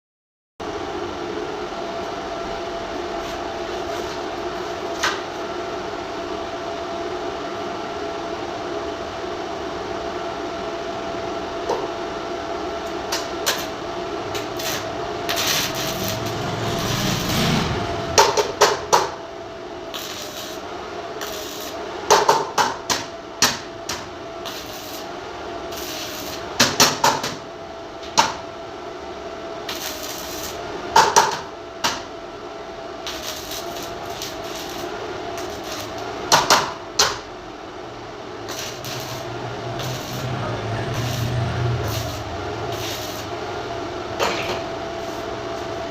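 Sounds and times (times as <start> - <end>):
steady machine hum: 0.6 - 45.9.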